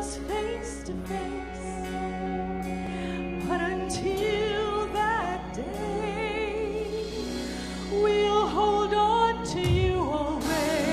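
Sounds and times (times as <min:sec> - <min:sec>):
sustained instrumental accompaniment: 0:00.0 - 0:10.9
woman singing into microphone: 0:00.0 - 0:10.9.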